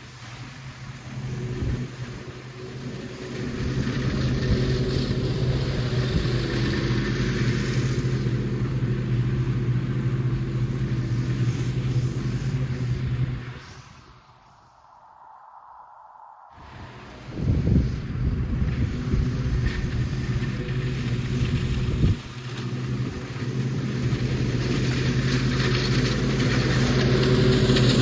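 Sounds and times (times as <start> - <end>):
ride-on lawn mower engine: 0.0 - 14.4, 16.6 - 28.0.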